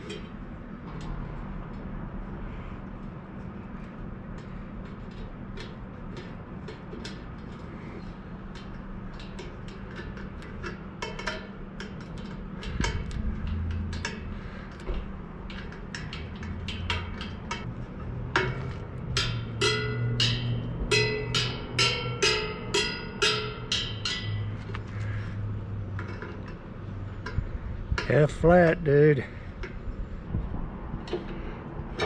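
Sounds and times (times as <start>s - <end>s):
metallic clicks of bicycle spokes: 0.0s - 28.5s, 29.5s - 30.1s
low background hum: 0.0s - 32.0s.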